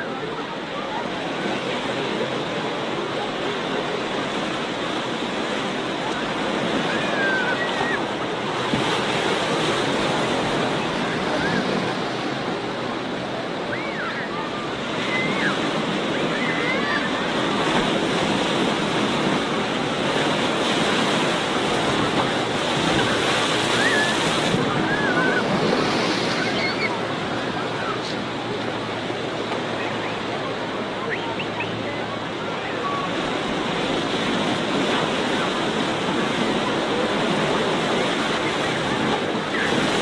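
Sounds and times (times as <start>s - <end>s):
distant voices: 0.0s - 40.0s
waves washing onto beach: 0.0s - 40.0s.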